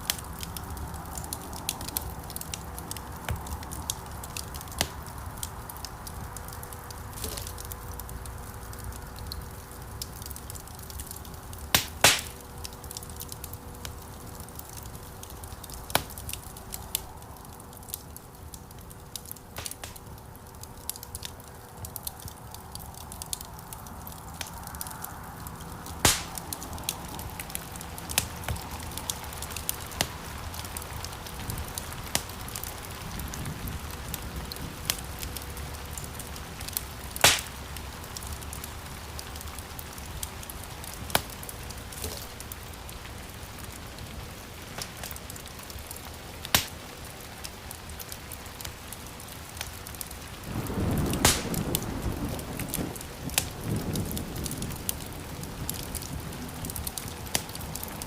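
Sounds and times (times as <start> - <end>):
sharp pops from fire: 0.0 - 42.7, 43.5 - 56.1, 56.7 - 58.0
wood fire crackling: 0.0 - 58.0.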